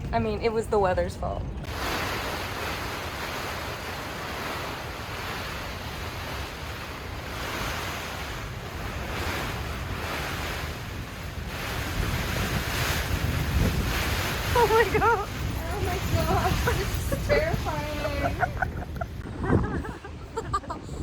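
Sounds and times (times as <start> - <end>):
gusty wind on microphone: 0.0 - 21.0.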